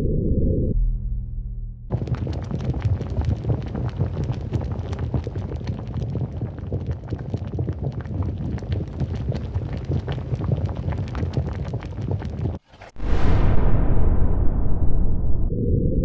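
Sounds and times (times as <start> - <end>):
rocket engine rumble with crackling: 0.0 - 16.0.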